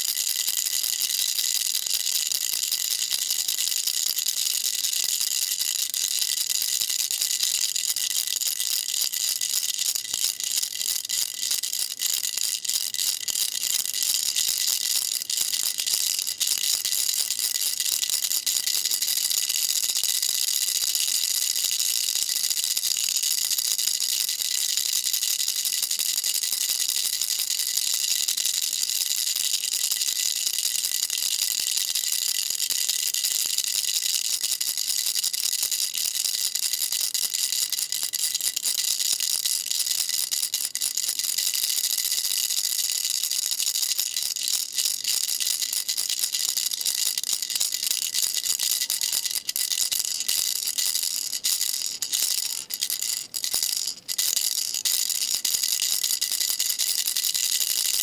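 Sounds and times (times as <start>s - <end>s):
baby rattle shaken: 0.0s - 58.0s.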